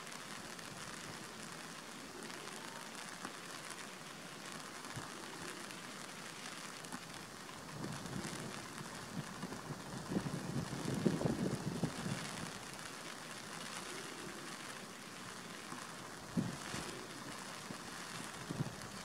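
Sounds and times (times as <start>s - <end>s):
rain patter: 0.0s - 19.0s.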